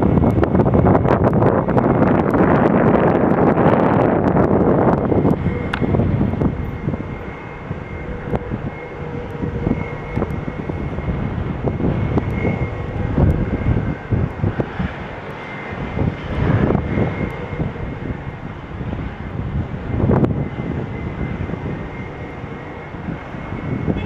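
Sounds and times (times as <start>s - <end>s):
airplane engines whining: 0.0s - 24.0s
low rumble: 0.0s - 24.0s.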